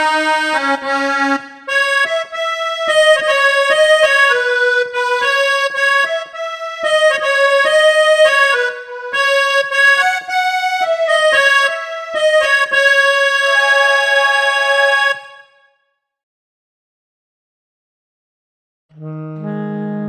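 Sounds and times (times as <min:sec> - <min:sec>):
keyboard melody: 0:00.0 - 0:15.6, 0:18.9 - 0:20.0.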